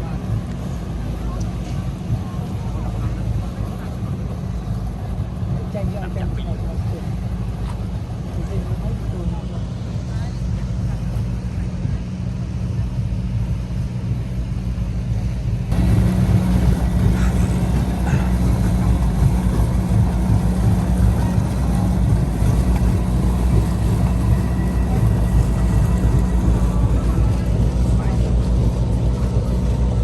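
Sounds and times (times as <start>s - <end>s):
boat engine drone: 0.0s - 30.0s
water and wind noise: 0.0s - 30.0s.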